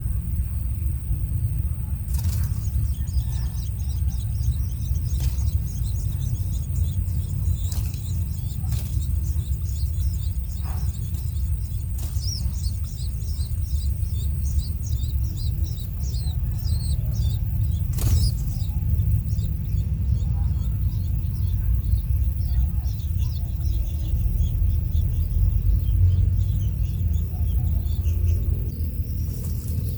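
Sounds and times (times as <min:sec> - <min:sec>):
birds chirping: 0:00.0 - 0:29.9
steady low rumble: 0:00.0 - 0:29.9.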